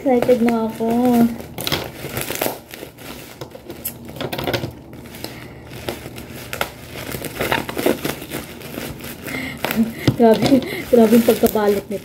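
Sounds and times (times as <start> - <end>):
bubble wrap crackling: 0.0 - 12.0.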